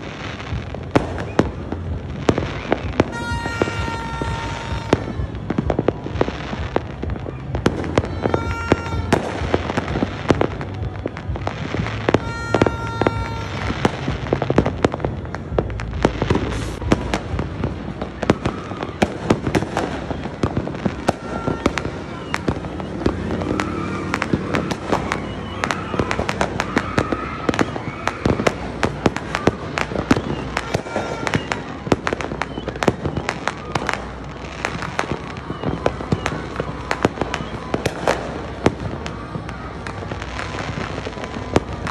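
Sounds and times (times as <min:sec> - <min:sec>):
firecrackers banging and crackling: 0:00.0 - 0:41.9.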